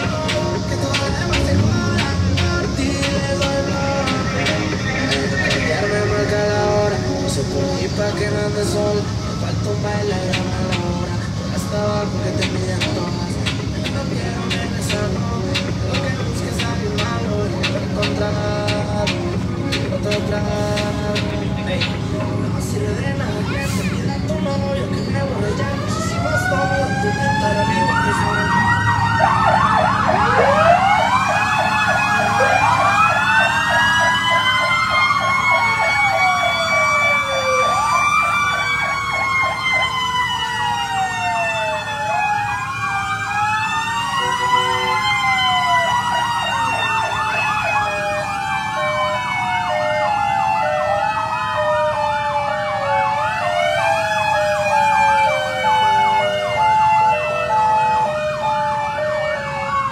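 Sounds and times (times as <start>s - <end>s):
fire truck sirens wailing: 0.0s - 59.9s
truck engines rumbling: 0.0s - 59.9s.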